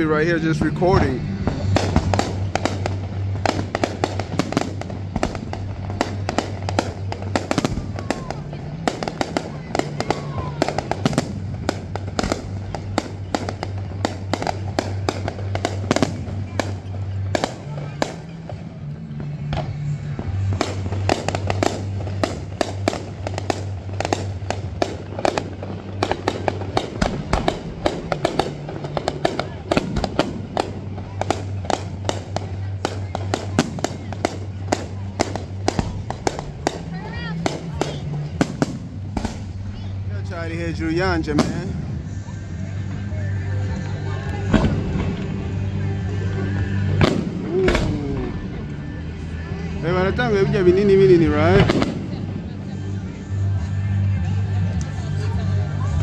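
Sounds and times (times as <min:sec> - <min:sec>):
low hum: 0:00.0 - 0:33.2, 0:34.0 - 0:56.0
fireworks bangs and crackles: 0:00.0 - 0:56.0.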